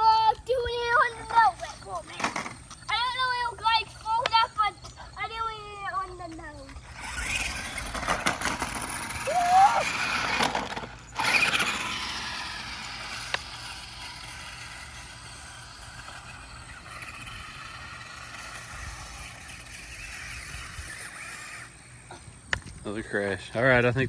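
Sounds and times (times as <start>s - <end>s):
small electric motor whining: 0.0s - 24.0s.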